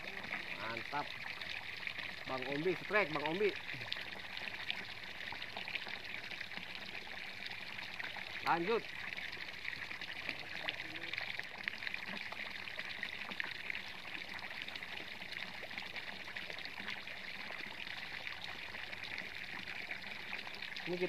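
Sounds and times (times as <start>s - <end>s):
water pouring from pipe: 0.0s - 21.0s.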